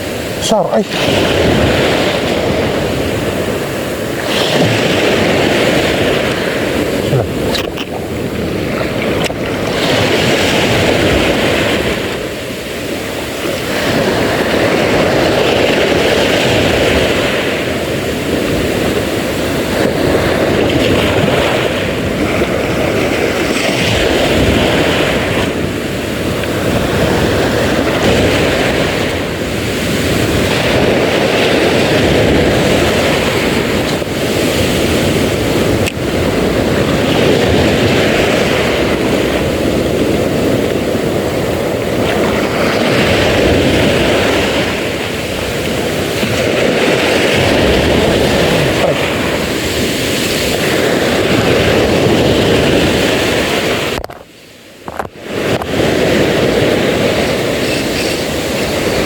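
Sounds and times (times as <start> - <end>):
sea waves: 0.0 - 59.0
wind buffeting microphone: 0.0 - 59.0.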